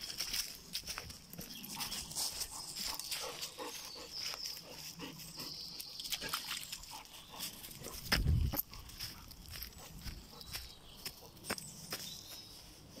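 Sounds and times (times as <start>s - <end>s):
rustle of dry leaves underfoot: 0.0s - 13.0s.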